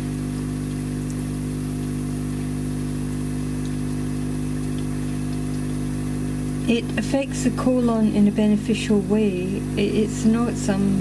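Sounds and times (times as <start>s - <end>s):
ozone generator humming: 1.4s - 11.0s.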